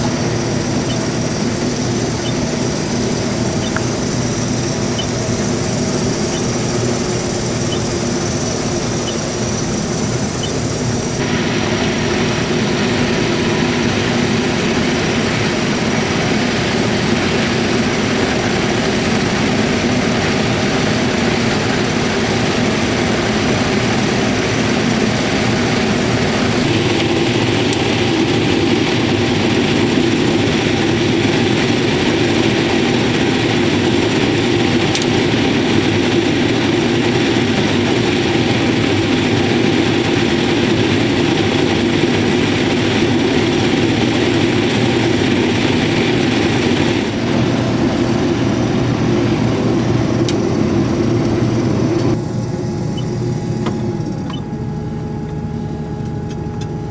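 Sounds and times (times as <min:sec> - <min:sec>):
corn-shelling machinery drone: 0:00.0 - 0:56.9.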